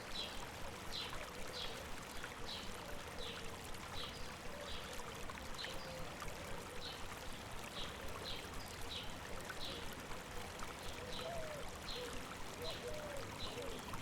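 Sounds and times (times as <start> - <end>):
river water babbling: 0.0 - 14.0.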